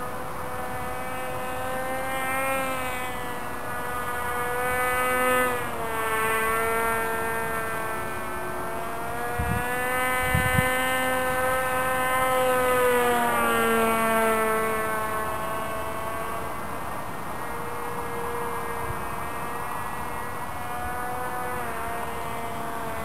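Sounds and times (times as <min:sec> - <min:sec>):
model aircraft motor drone: 0:00.0 - 0:23.0.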